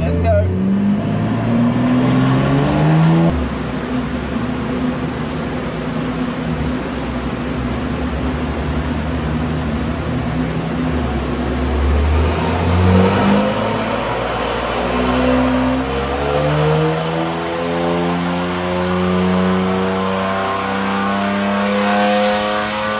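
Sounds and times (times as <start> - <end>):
car engine revving on dyno: 0.1 - 22.9.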